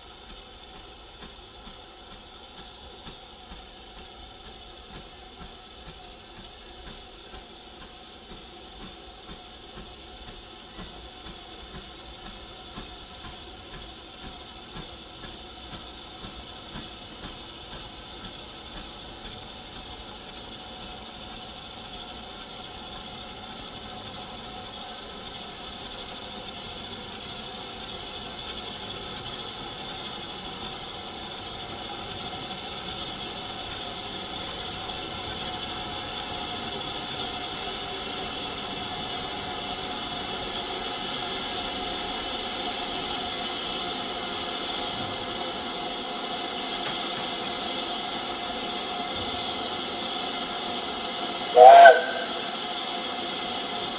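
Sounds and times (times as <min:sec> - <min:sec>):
steam hissing: 0:00.0 - 0:53.9
steam locomotive approaching: 0:00.0 - 0:53.9.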